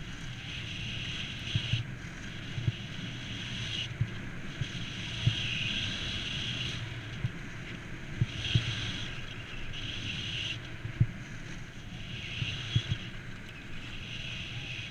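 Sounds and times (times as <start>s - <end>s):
skis hissing over snow: 0.0s - 14.9s
wind on microphone: 0.0s - 14.9s.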